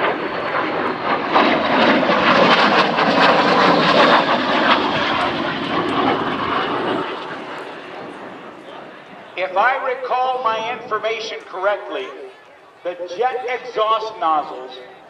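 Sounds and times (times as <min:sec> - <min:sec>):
crackling jet engine rush: 0:00.0 - 0:15.0.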